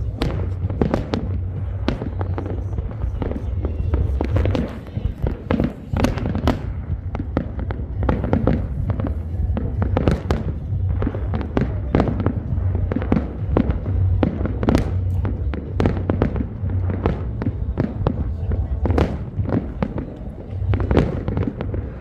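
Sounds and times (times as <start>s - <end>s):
continuous low rumble: 0.0s - 22.0s
fireworks bangs and crackles: 0.0s - 22.0s.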